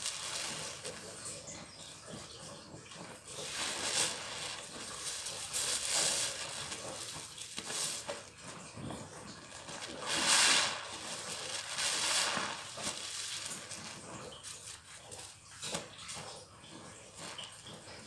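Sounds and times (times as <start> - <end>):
crackling foam: 0.0 - 18.0
rushes of water: 0.0 - 18.0
soapy sponge squelching: 0.0 - 18.0.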